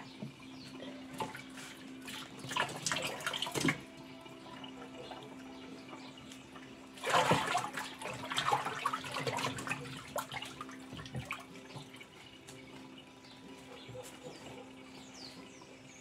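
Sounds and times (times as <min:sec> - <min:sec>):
water rushing in washing machine: 0:00.0 - 0:12.9.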